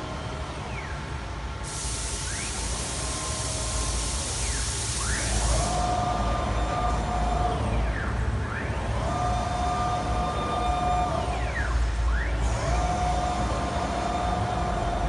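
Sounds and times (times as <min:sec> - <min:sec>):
router gantry motors whining: 0:02.3 - 0:15.0.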